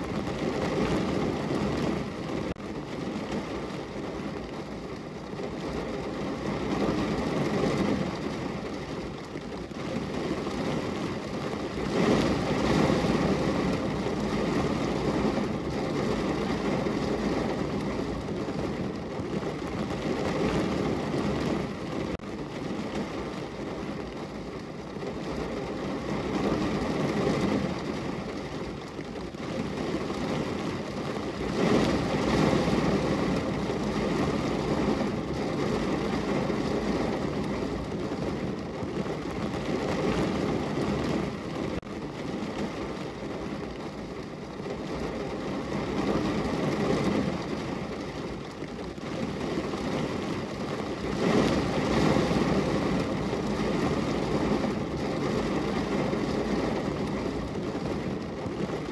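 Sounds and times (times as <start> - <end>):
rain pattering on a window: 0.0 - 58.9.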